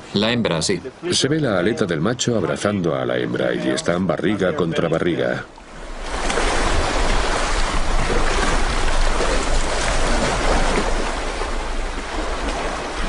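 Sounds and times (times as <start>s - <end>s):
sea water splashing: 0.8s - 13.0s.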